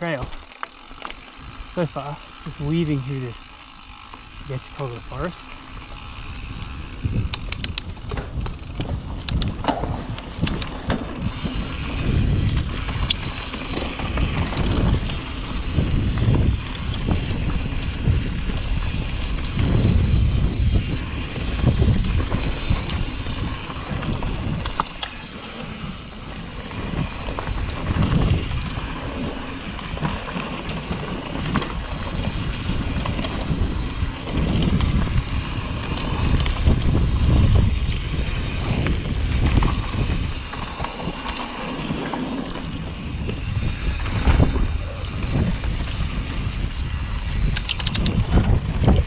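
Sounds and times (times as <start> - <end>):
mountain bike rolling on dirt: 0.0 - 49.0
wind buffeting microphone: 1.3 - 49.0.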